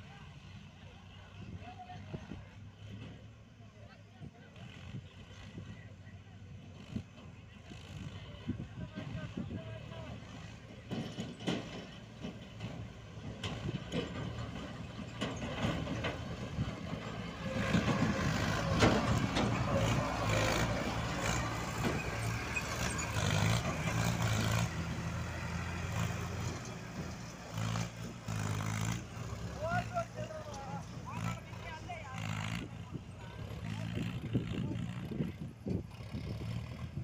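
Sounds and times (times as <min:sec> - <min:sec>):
tractor diesel engine running: 0:00.1 - 0:37.0.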